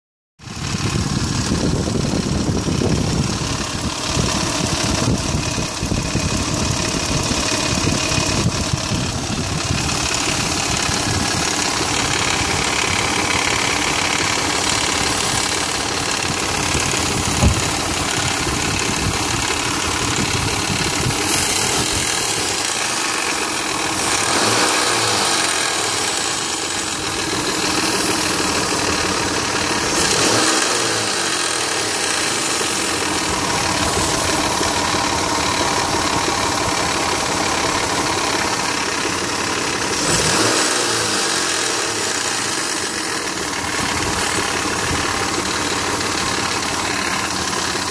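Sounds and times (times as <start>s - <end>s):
car engine idling: 0.4s - 47.9s.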